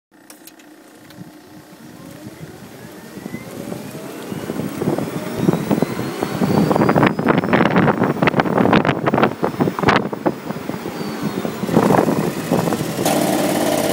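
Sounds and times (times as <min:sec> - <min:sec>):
electric motor whining: 0:00.2 - 0:13.9
wind buffeting microphone: 0:01.0 - 0:13.9.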